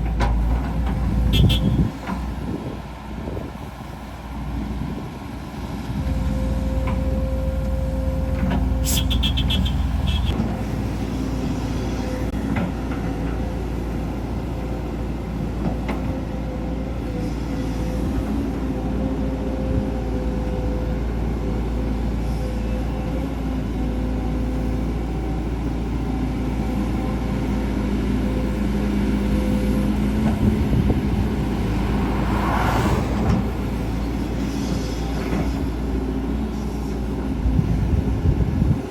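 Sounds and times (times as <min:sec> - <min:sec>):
construction machinery engine drone: 0:00.0 - 0:38.9.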